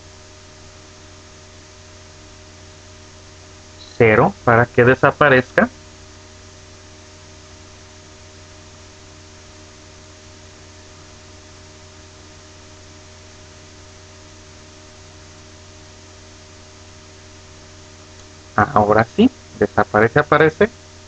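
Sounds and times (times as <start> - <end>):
constant hiss: 0.0 - 21.0
low electrical hum: 0.0 - 21.0.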